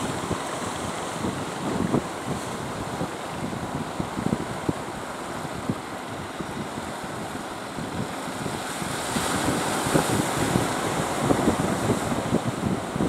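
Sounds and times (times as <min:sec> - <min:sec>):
water rushing: 0:00.0 - 0:13.0
wind buffeting microphone: 0:00.0 - 0:13.0.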